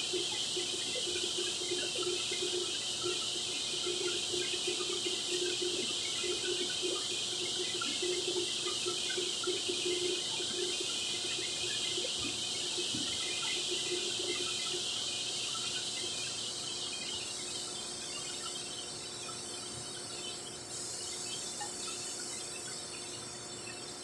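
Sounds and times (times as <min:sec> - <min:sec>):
machinery hiss: 0:00.0 - 0:24.0.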